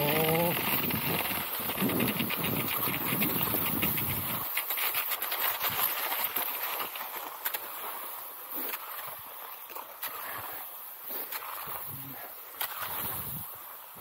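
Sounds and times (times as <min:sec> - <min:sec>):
ski scrapes: 0:00.0 - 0:13.7
pole plants: 0:00.0 - 0:13.8
skis hissing on snow: 0:00.0 - 0:14.0.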